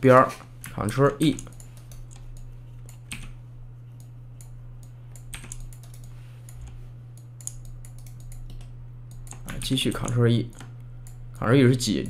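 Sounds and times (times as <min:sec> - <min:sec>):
steady low hum: 0:00.0 - 0:12.0
keyboard and mouse clicks: 0:00.6 - 0:03.4, 0:04.0 - 0:11.5.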